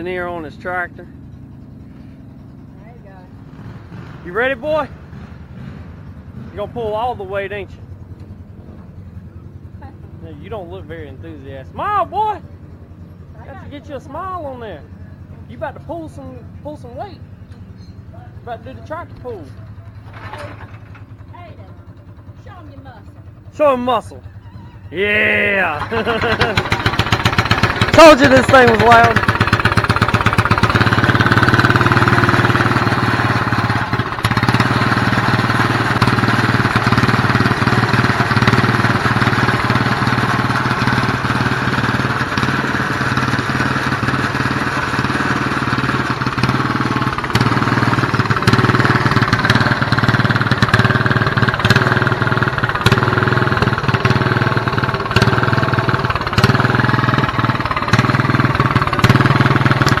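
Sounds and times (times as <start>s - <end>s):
lawn tractor engine running: 0.0s - 60.0s.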